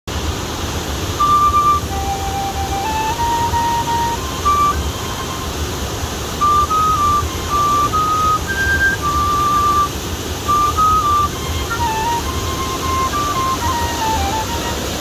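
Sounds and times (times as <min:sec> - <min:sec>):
waterfall rushing: 0:00.1 - 0:15.0
flute playing slow melody: 0:01.0 - 0:15.0.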